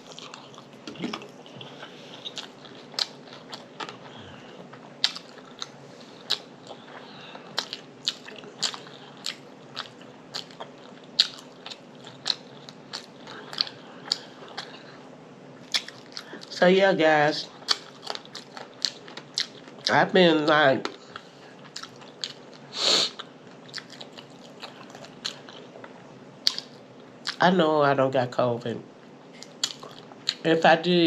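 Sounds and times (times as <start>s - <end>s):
person chewing crackly food: 0.0s - 16.6s, 17.4s - 20.0s, 20.8s - 27.4s, 29.0s - 30.5s.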